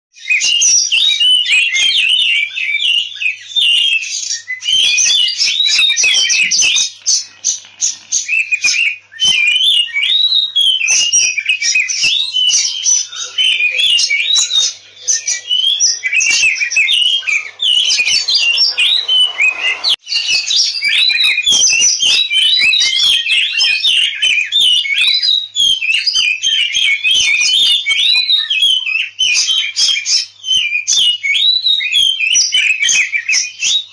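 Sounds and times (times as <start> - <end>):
songbird whistling and clicking: 0.2 - 33.9.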